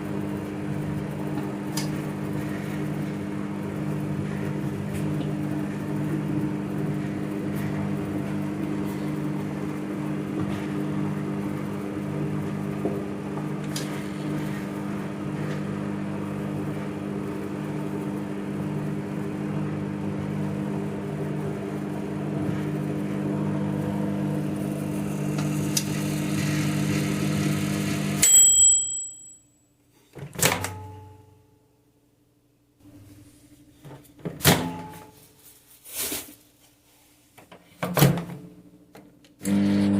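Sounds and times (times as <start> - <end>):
microwave oven humming: 0.0 - 29.5, 30.3 - 35.7, 37.9 - 39.9.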